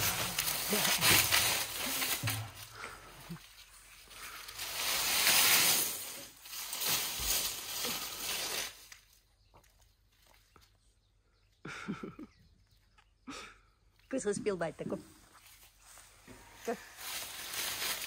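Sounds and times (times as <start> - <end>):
branches rustling and crackling: 0.0 - 11.1, 13.9 - 18.0.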